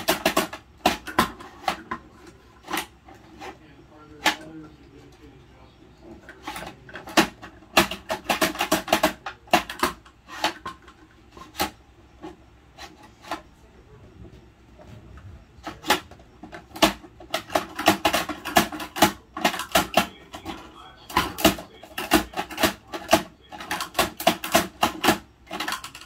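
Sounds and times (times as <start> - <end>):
plastic toys clicking and knocking: 0.0 - 5.2, 6.0 - 13.6, 15.6 - 26.0.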